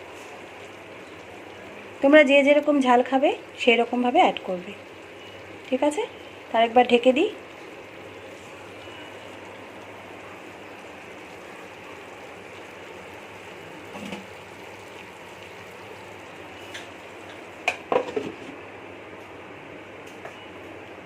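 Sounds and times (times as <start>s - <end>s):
chicken sizzling in a pan: 0.0s - 18.2s.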